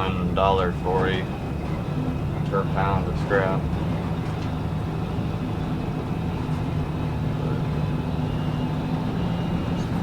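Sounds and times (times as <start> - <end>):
truck engine droning: 0.0 - 10.0.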